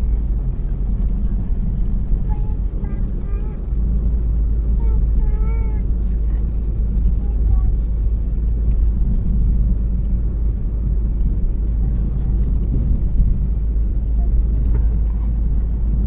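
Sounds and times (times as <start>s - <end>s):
car interior road noise: 0.0s - 16.0s.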